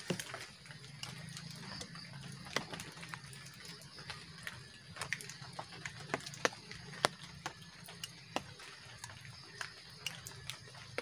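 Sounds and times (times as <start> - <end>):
water drops tapping on shelter: 0.0 - 11.0.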